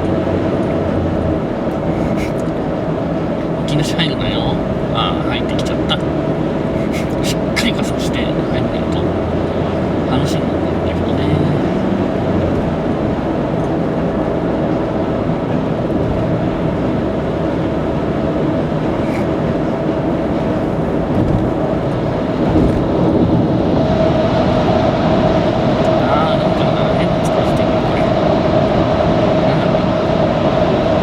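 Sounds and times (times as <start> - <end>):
car road noise inside cabin: 0.0 - 31.0.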